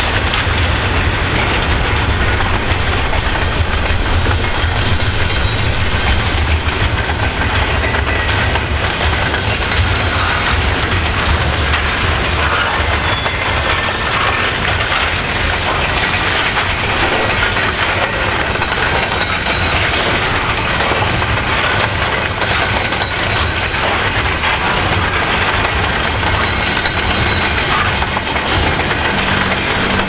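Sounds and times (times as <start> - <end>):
freight train rolling past: 0.0 - 30.0.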